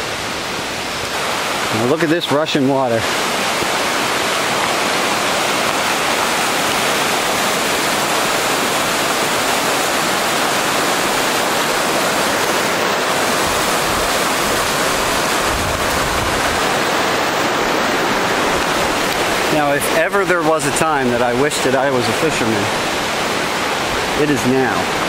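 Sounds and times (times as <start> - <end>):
creek rushing over rocks: 0.0 - 25.0.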